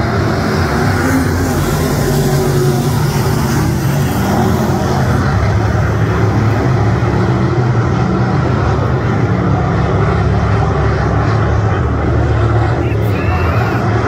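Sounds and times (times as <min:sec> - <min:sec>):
race engine droning: 0:00.0 - 0:14.0.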